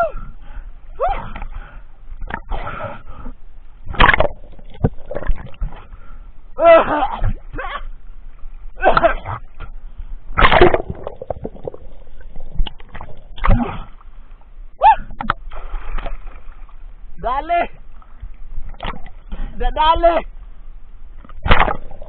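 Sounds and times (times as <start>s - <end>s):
sea water splashing and gurgling: 0.0s - 22.0s.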